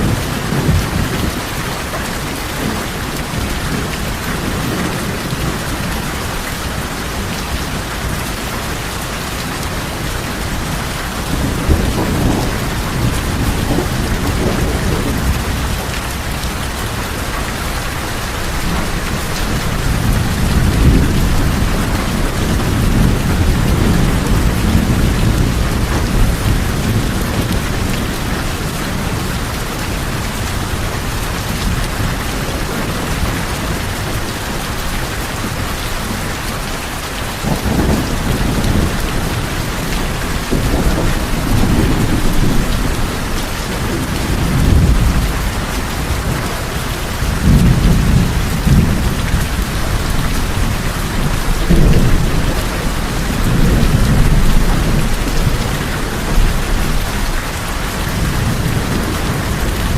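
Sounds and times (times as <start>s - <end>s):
heavy rain on tin roofs: 0.0s - 59.9s
thunder rumbling: 0.0s - 59.9s.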